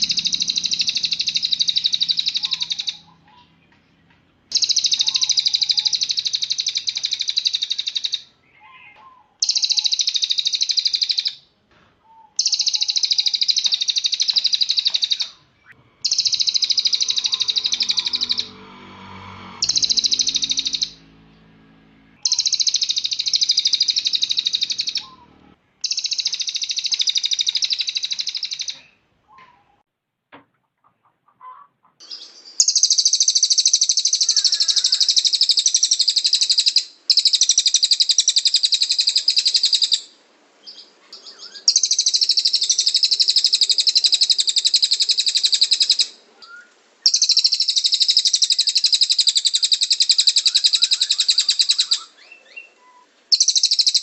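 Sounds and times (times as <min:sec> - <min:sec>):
songbird trilling: 0:00.0 - 0:18.8, 0:19.6 - 0:21.3, 0:22.2 - 0:29.8, 0:31.5 - 0:54.0.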